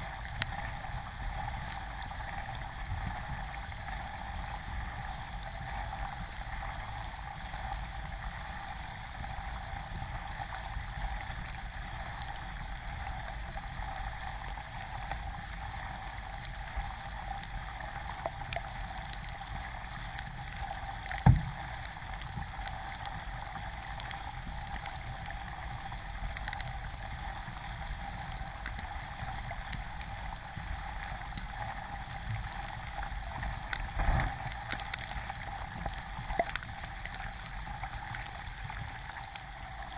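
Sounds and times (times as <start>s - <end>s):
water lapping along kayak hull: 0.0s - 39.9s
water splashing over camera: 0.0s - 39.9s.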